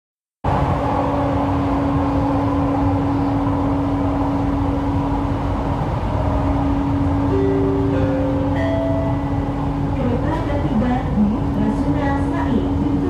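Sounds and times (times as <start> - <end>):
train rumble inside carriage: 0.4 - 13.0
steady humming tone: 1.0 - 13.0.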